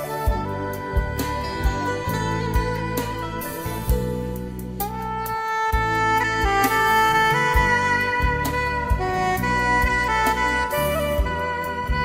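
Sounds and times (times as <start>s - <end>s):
saxophone melody: 0.0s - 12.0s
steady bass beat: 0.0s - 12.0s.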